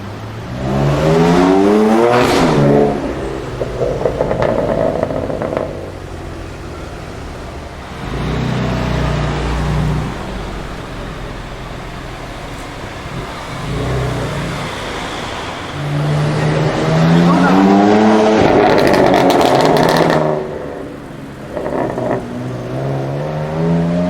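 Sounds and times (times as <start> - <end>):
car engine low rumble: 0.0 - 24.0
street traffic: 0.0 - 24.0.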